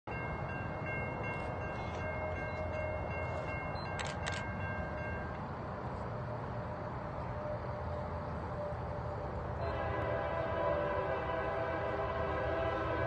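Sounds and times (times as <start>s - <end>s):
train rumbling: 0.1s - 13.0s.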